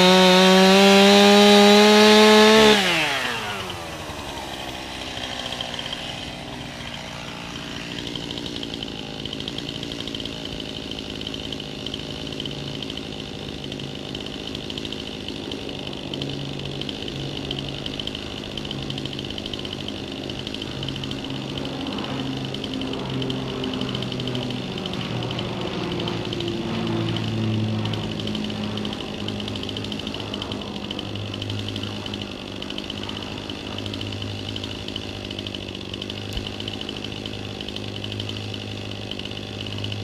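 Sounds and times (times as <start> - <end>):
chainsaw engine revving and idling: 0.0 - 40.0.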